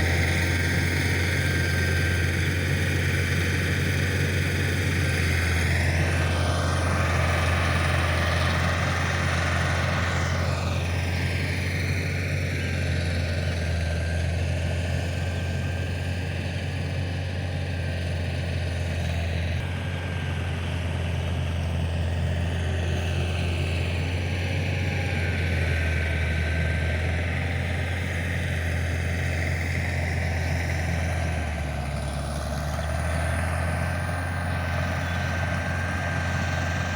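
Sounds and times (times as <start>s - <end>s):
diesel engine drone: 0.0s - 36.9s.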